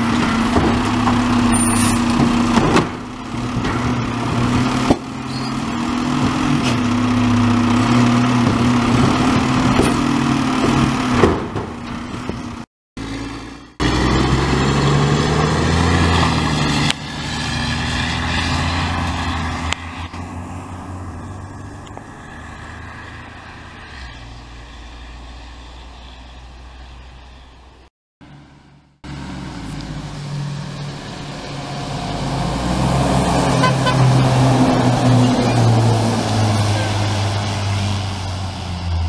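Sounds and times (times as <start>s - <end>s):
garbage truck engine: 0.0s - 39.0s.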